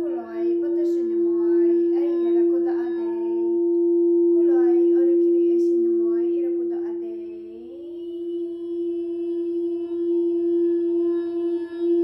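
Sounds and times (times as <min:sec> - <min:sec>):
crystal singing bowl ringing: 0:00.0 - 0:12.0.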